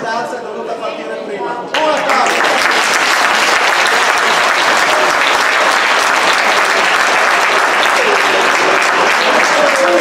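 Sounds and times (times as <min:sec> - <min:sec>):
crowd applauding: 0:01.8 - 0:10.0.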